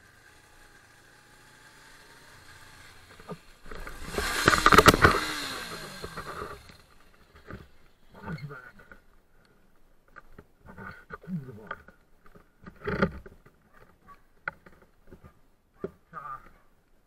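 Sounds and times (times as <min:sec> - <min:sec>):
engine hum: 0:00.0 - 0:16.6.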